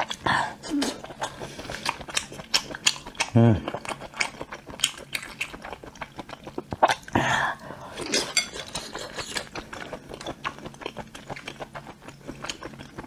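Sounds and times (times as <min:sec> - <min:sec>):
wet chewing mouth clicks: 0:00.8 - 0:07.2, 0:08.0 - 0:13.0.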